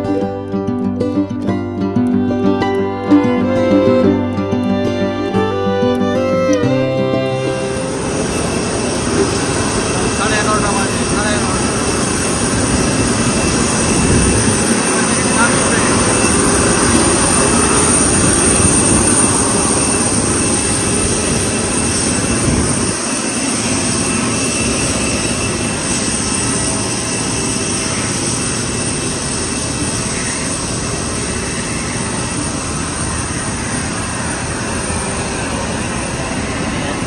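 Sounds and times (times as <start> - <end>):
jet aircraft rumble and whine: 0.0 - 37.0.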